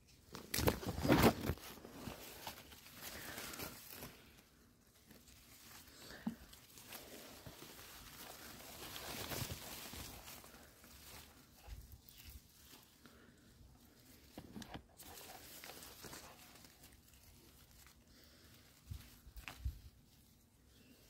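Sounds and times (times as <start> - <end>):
leaves and canes rustling: 0.0 - 21.0.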